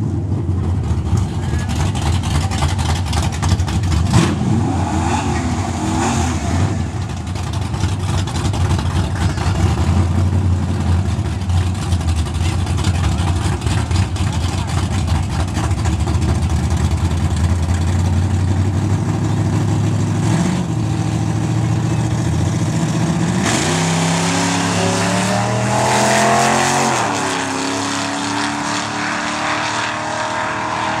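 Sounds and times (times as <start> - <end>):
drag race engines revving: 0.0 - 31.0.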